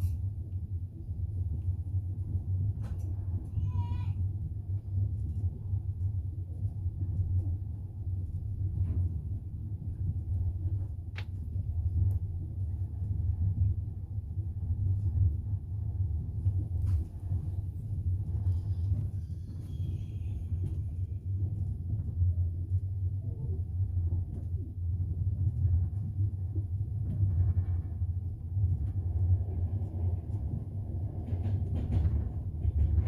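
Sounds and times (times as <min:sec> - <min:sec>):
train rumbling over rails: 0:00.0 - 0:33.0.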